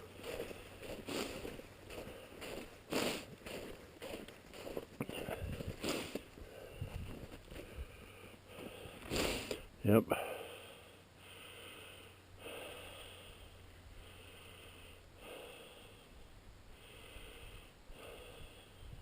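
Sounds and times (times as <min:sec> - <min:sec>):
person breathing: 0:00.0 - 0:19.0.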